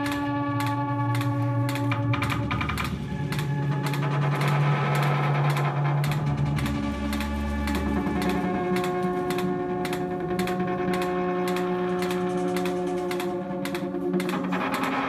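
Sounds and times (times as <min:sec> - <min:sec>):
sharp clicks: 0:00.0 - 0:15.0.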